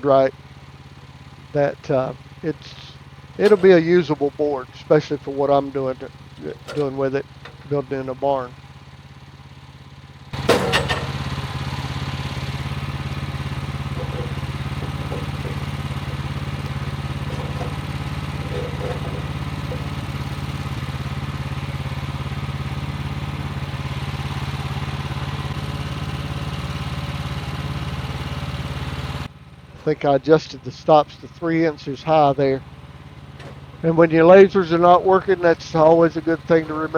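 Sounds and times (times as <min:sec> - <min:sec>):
sawmill engine running: 0:00.0 - 0:36.9.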